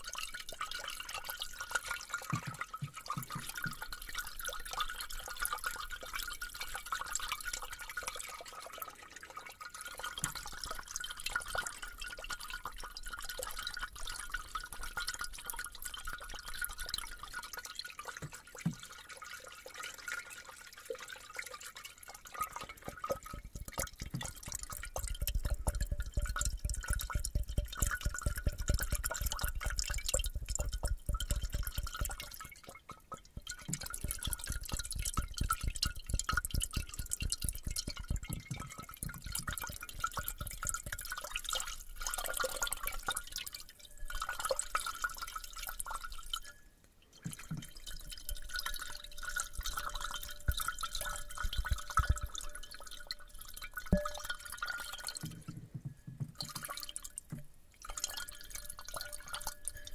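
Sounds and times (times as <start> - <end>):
rapid wet clicking and crackling: 0.0 - 55.7, 56.3 - 59.9.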